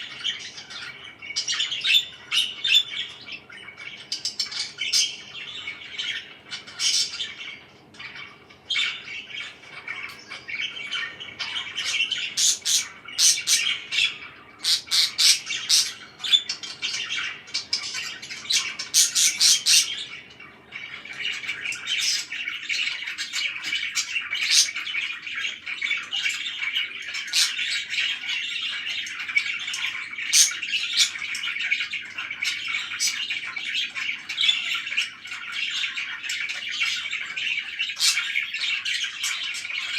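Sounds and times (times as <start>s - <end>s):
parakeet squawks: 0.0s - 39.9s
parakeets chattering and chirping: 0.0s - 39.9s.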